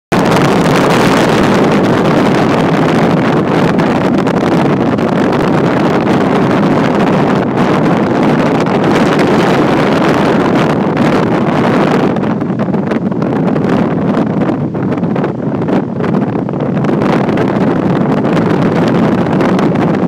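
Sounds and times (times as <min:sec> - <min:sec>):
wind blowing across microphone: 0:00.1 - 0:20.0.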